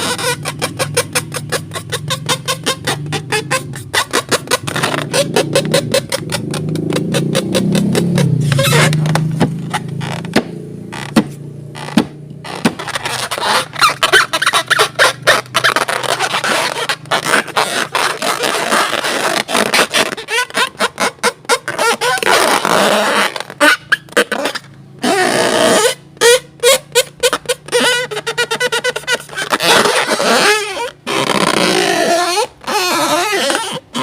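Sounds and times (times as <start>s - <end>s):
squeaky rubbing: 0.0s - 34.0s.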